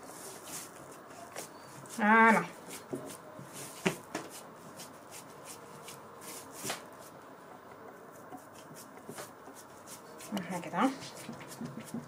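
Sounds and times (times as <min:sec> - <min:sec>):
hands rubbing and patting dough: 0:00.0 - 0:12.0.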